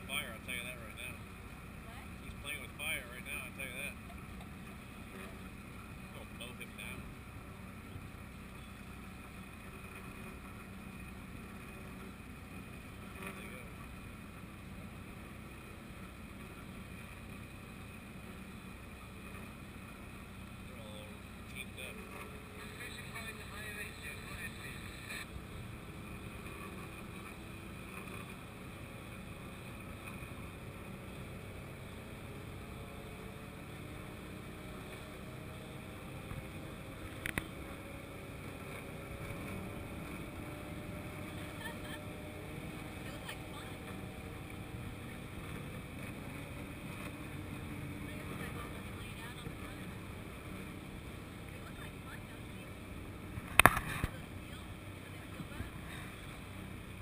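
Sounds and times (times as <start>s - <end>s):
boat motor droning: 0.0s - 57.0s
wind: 0.0s - 57.0s.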